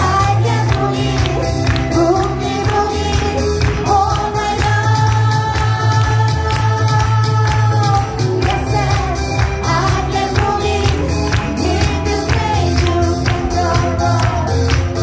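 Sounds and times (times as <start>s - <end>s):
amplified pop music with beat: 0.0s - 15.0s
audience clapping along: 0.0s - 15.0s
woman singing into a microphone: 0.0s - 15.0s.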